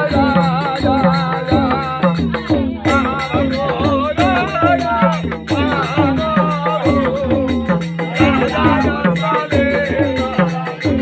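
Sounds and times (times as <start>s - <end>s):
pitch-bending drum beat: 0.0s - 11.0s.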